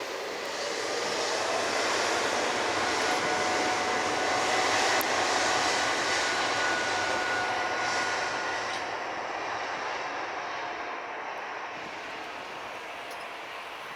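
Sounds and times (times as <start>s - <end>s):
jet engines at takeoff: 0.0s - 13.9s.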